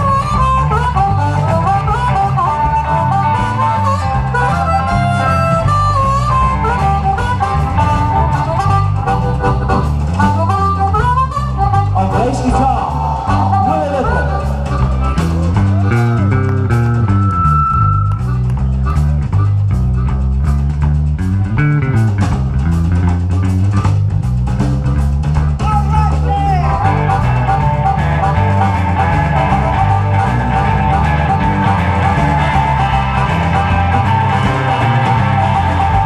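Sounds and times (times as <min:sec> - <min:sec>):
harmonica long notes: 0:00.0 - 0:19.8, 0:26.6 - 0:36.0
drums: 0:00.0 - 0:36.0
electric bass line: 0:00.0 - 0:36.0
electric guitar: 0:00.0 - 0:36.0.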